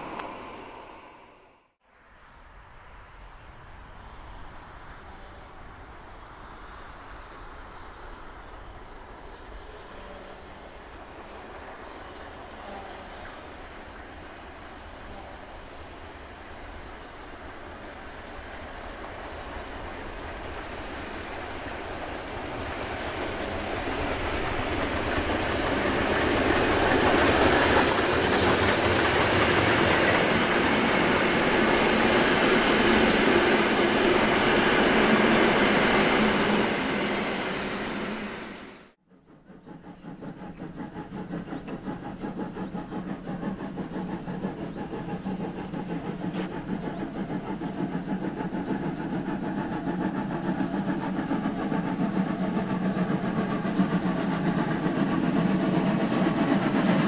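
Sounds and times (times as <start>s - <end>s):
steam train passing: 0.0s - 57.0s.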